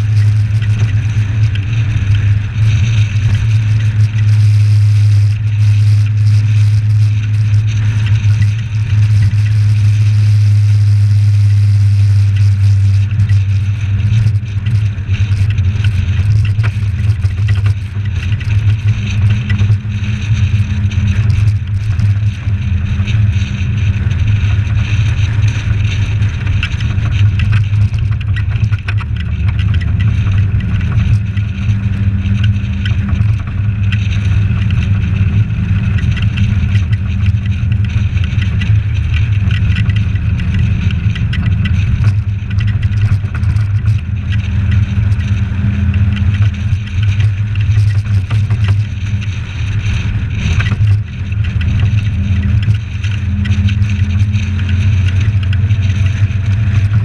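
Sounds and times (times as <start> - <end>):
car engine drone: 0.0 - 57.0
road and wind noise: 0.0 - 57.0.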